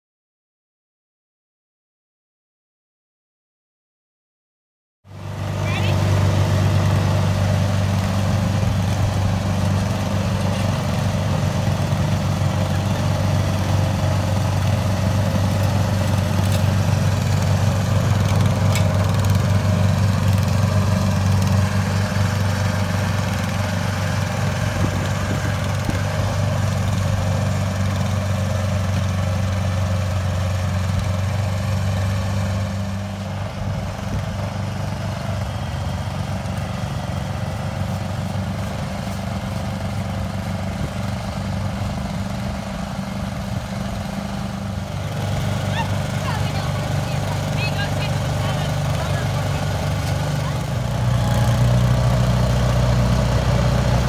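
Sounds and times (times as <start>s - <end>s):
small engine humming: 5.1s - 54.0s.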